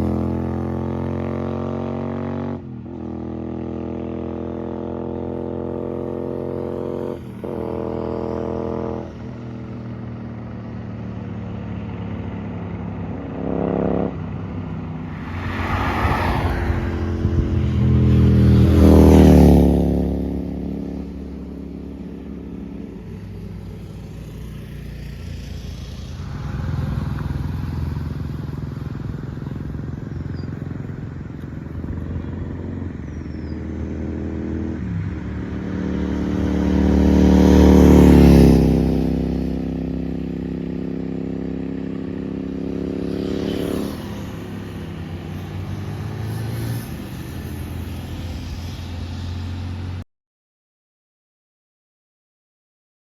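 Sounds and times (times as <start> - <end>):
motorcycle engine: 0.0 - 50.0
motorcycle riding past: 0.0 - 50.0.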